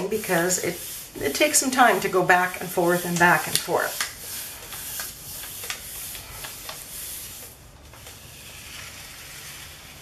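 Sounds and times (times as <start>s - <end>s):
paper swishing over a plate: 0.0s - 10.0s.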